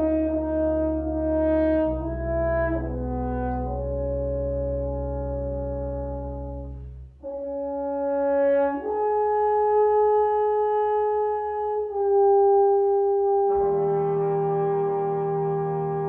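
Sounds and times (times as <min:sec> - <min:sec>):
french horn melody: 0:00.0 - 0:16.0.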